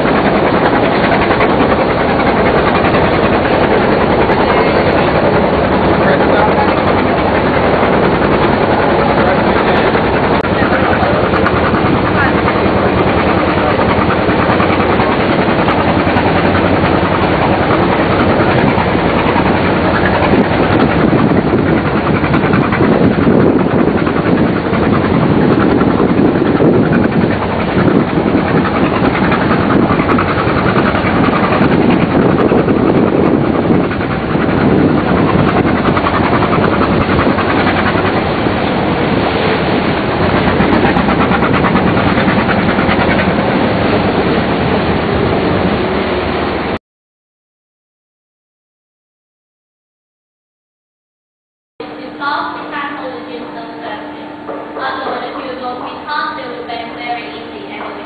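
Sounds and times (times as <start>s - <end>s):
boat engine running: 0.0s - 46.8s, 51.8s - 58.0s.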